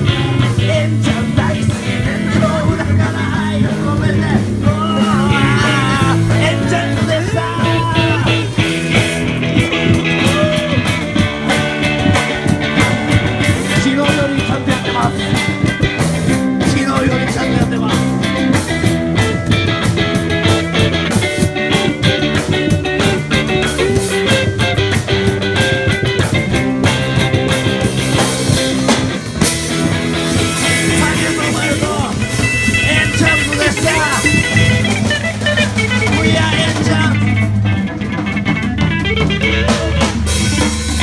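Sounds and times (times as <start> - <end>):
drum kit beat: 0.0 - 41.0
live rock band playing: 0.0 - 41.0
sustained guitar notes: 0.0 - 41.0.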